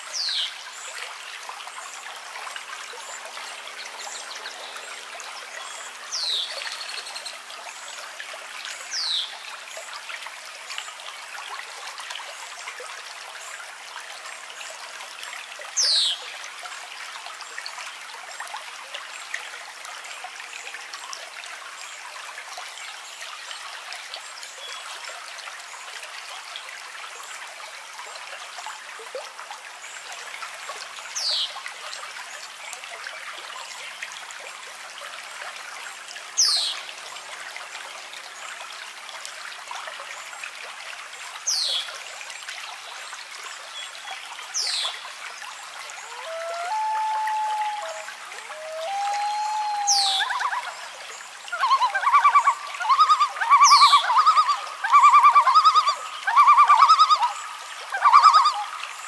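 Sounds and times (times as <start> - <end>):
trickling stream: 0.0 - 59.0.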